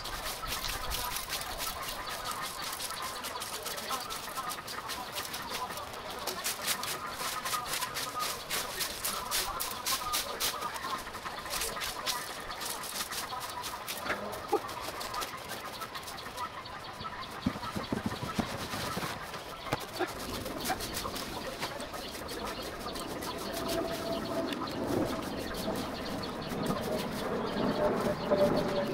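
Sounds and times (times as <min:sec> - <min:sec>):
birds calling: 0:00.0 - 0:28.9
rake scratching dry grass: 0:00.0 - 0:28.9.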